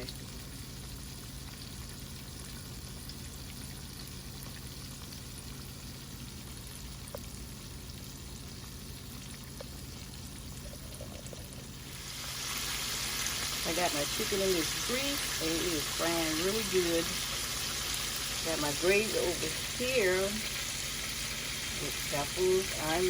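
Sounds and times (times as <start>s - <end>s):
chicken wings sizzling in grease: 0.0s - 23.0s.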